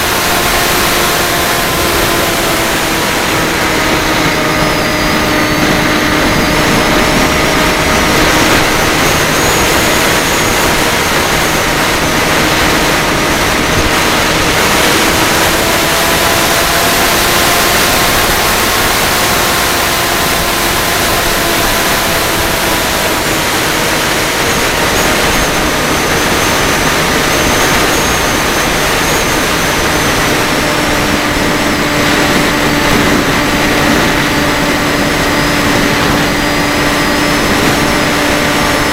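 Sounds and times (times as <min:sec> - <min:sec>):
drone motors whining: 0:00.0 - 0:38.9
rush of air noise: 0:00.0 - 0:38.9.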